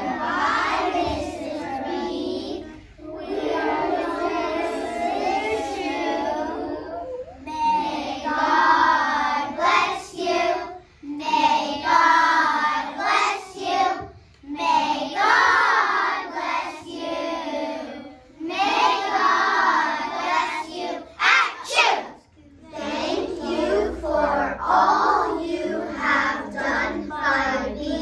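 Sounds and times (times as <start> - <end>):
young children singing: 0.0 - 28.0.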